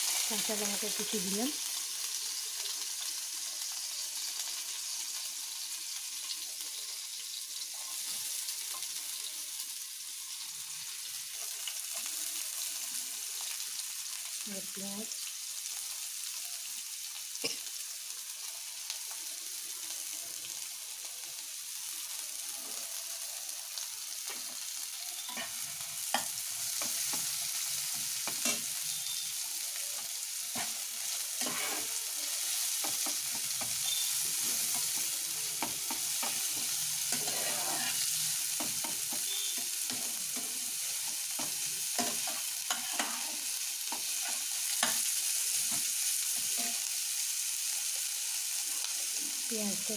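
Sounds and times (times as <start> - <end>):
vegetables sizzling in oil: 0.0 - 49.9.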